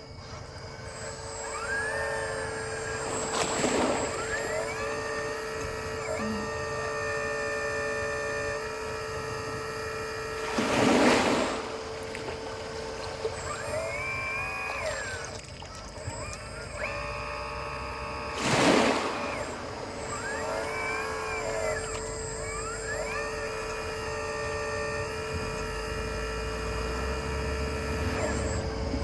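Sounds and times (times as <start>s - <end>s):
hydraulic pump whining: 0.0s - 29.0s
steady hum: 0.0s - 29.0s.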